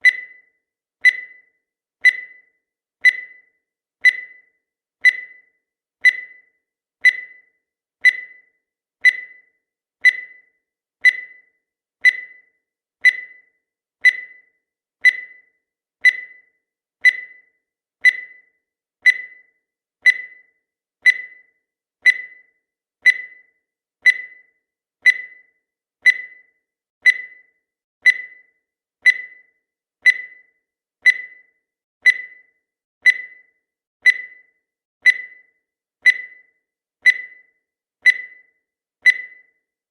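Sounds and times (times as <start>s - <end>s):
countdown timer beeps: 0.0s - 39.8s.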